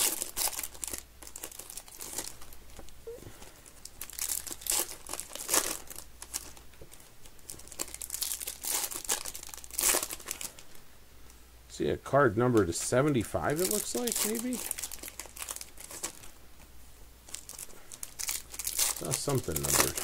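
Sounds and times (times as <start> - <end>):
foil wrapper crinkling and tearing: 0.0 - 2.8, 3.5 - 10.8, 12.5 - 16.4, 17.2 - 20.0.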